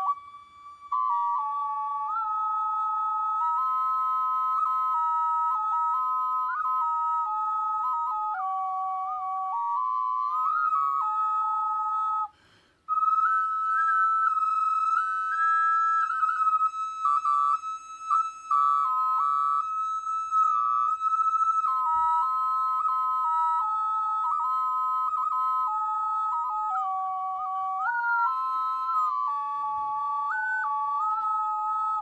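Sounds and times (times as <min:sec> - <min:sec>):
double ocarina melody: 0:00.0 - 0:32.0.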